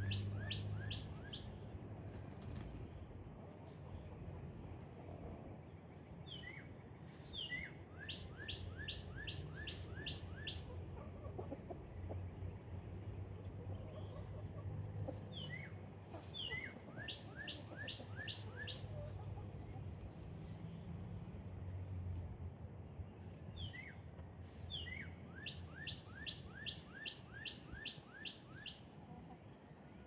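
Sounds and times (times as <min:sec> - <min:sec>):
songbird singing: 0:00.0 - 0:04.4, 0:05.5 - 0:21.9, 0:22.7 - 0:29.7.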